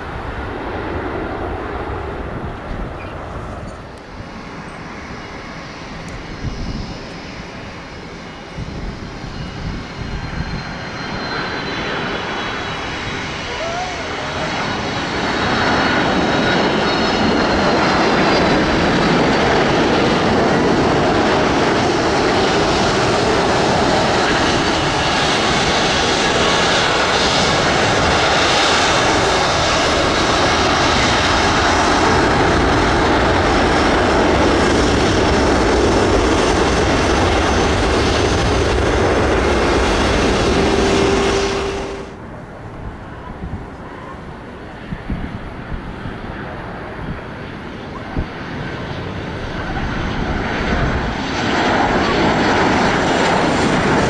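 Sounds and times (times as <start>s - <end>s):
faint aircraft drone: 0.0s - 54.0s
jet engines roaring: 0.0s - 54.0s.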